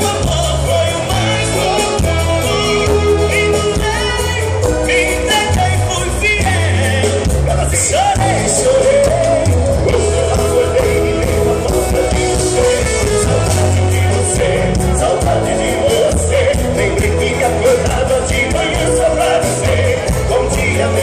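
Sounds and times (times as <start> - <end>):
accordion: 0.0 - 21.0
acoustic guitar: 0.0 - 21.0
bass: 0.0 - 21.0
drums: 0.0 - 21.0
man singing: 0.0 - 21.0.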